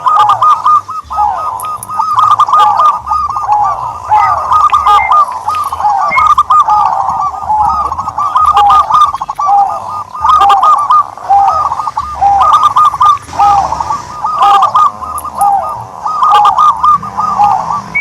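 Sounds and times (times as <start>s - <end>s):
turtle doves cooing: 0.0s - 18.0s.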